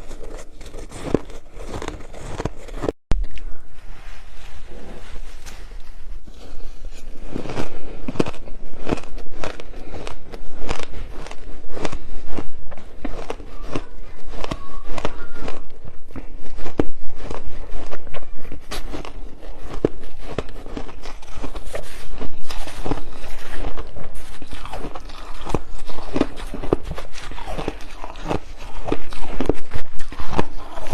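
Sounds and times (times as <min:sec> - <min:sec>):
ice being chewed: 0:00.0 - 0:03.5, 0:04.8 - 0:30.9.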